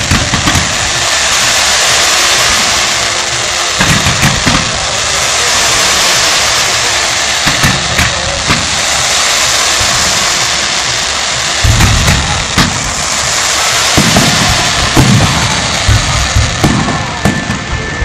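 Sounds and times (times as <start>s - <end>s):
fireworks fizzing hiss: 0.0s - 18.0s
fireworks thumps and bangs: 0.0s - 18.0s.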